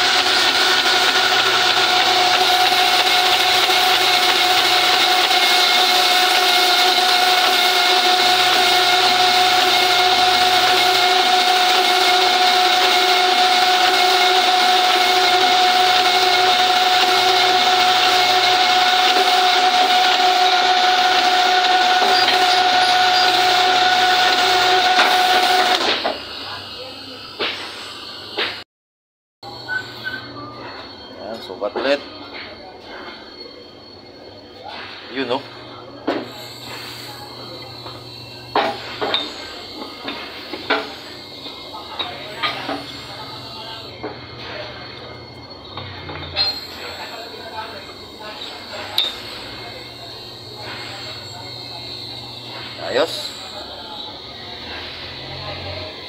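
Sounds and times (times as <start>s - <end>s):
honing machine whine and grinding: 0.0s - 28.6s, 29.4s - 56.0s.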